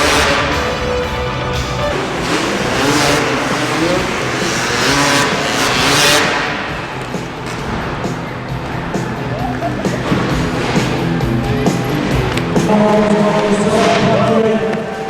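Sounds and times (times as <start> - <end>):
engine revving: 0.0 - 15.0
loud arena noise: 0.0 - 15.0.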